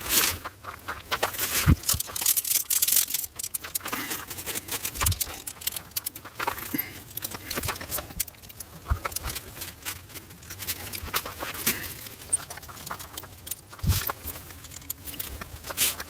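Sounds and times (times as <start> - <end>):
camping gear rustling and clinking: 0.0 - 16.0.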